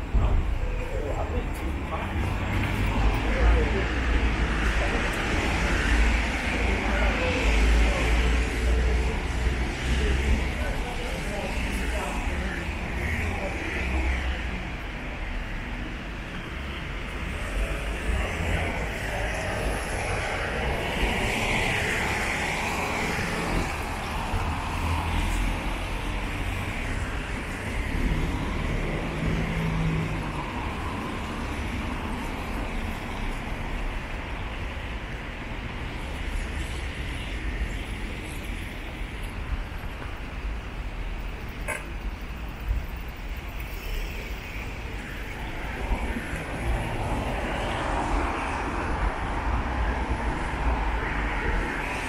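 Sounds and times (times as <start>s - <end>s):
cars passing on wet road: 0.0s - 52.0s.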